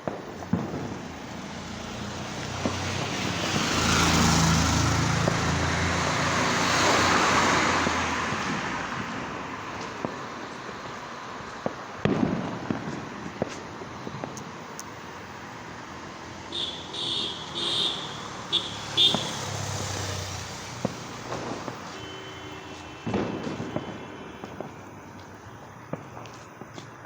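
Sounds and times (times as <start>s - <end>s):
firecrackers banging: 0.0s - 27.0s
street noise: 0.0s - 27.0s.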